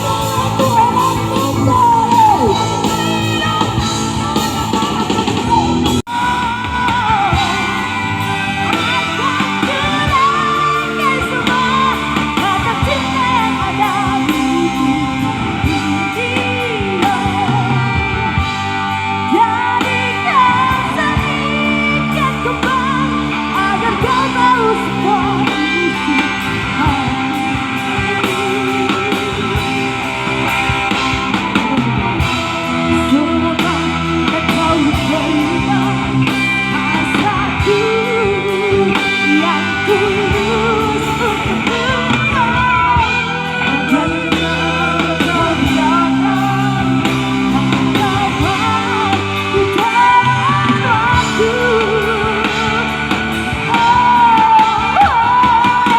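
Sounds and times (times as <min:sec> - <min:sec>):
electric guitar: 0:00.0 - 0:55.9
person singing rock-style: 0:00.0 - 0:55.9
rock band playing: 0:00.0 - 0:55.9.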